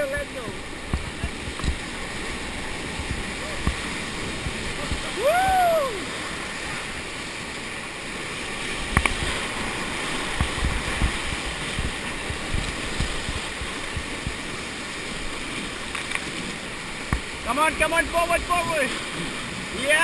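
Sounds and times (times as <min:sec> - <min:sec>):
rushing river water: 0:00.0 - 0:20.0.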